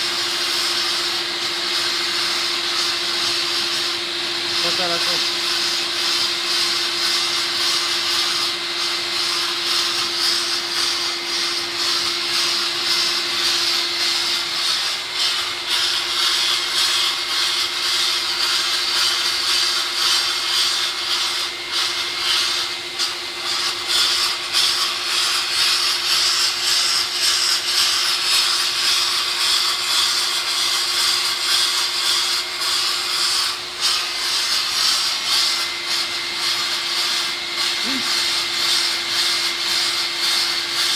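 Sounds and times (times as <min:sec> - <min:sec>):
sandblaster hissing: 0:00.0 - 0:40.9.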